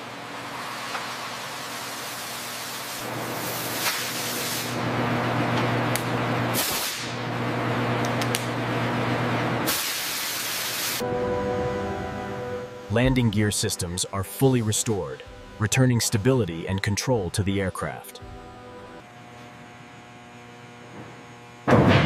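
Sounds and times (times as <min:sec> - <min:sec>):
low mechanical hum: 0:00.0 - 0:09.8, 0:10.9 - 0:22.0.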